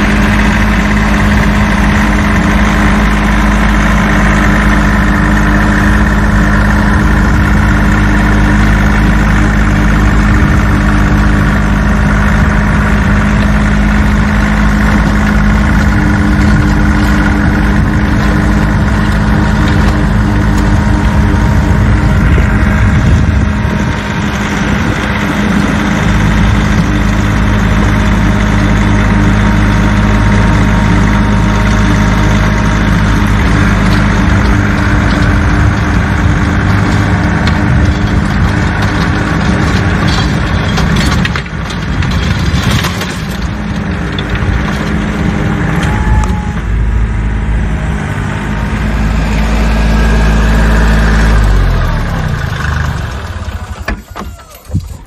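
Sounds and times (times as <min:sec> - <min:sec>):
rotary tiller churning soil: 0:00.0 - 0:55.0
tractor diesel engine running: 0:00.0 - 0:55.0.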